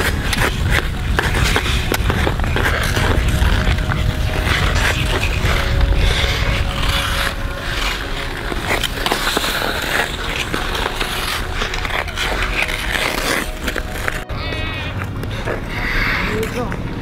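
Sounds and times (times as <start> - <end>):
skate blades scraping ice: 0.0 - 17.0.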